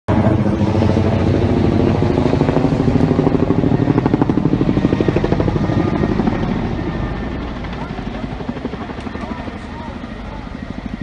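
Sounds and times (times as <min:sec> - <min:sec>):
helicopter engine drone: 0:00.1 - 0:11.0
helicopter rotor chopping: 0:00.1 - 0:11.0.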